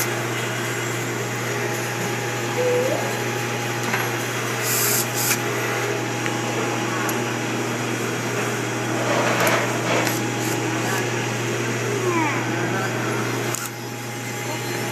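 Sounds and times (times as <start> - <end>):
machine humming: 0.0 - 14.9.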